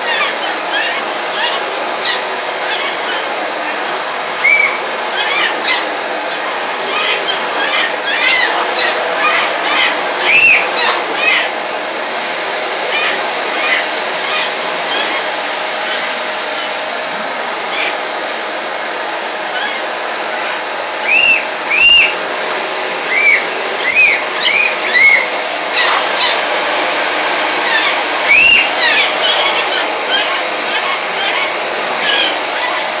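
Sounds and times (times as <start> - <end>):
parrot calls: 0.0 - 11.6, 12.9 - 16.9, 17.6 - 18.2, 19.4 - 33.0
vacuum cleaner whining: 0.0 - 33.0.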